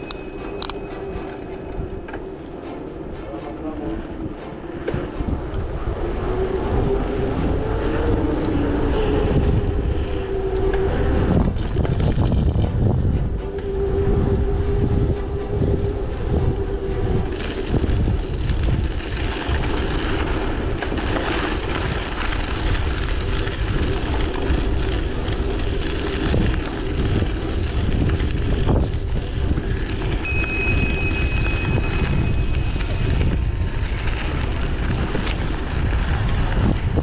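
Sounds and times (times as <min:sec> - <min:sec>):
bicycle tyres rolling on path: 0:00.0 - 0:37.0
wind buffeting microphone: 0:00.0 - 0:37.0.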